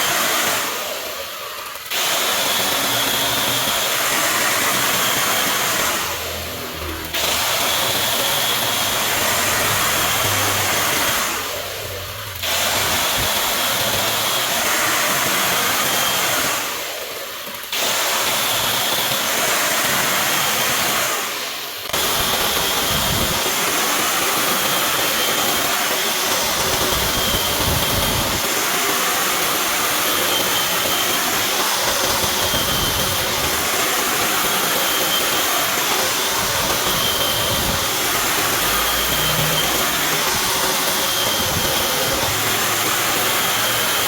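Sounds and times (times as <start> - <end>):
wood lathe cutting hiss: 0.0 - 44.0.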